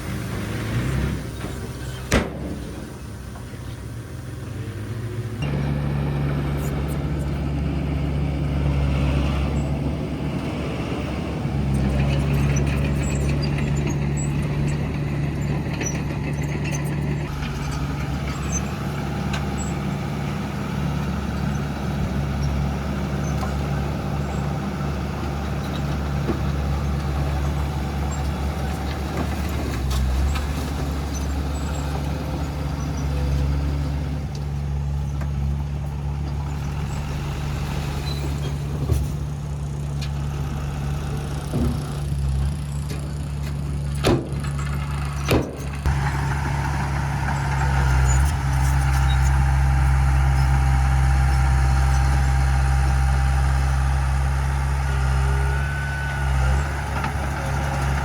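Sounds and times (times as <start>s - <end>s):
diesel engines droning: 0.0s - 58.0s.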